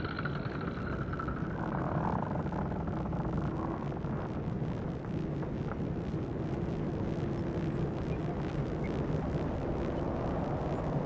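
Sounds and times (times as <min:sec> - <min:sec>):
low rumbling drone with hiss: 0:00.0 - 0:11.0.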